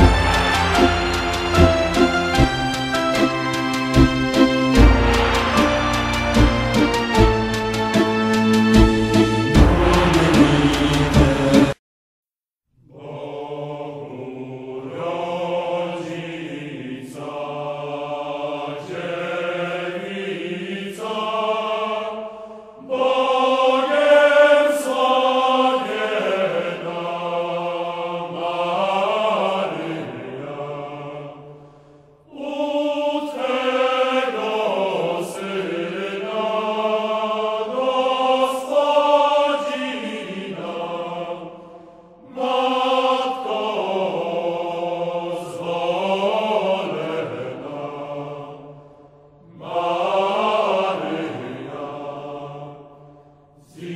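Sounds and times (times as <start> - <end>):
choral chanting: 0.0 - 11.8, 12.8 - 53.9.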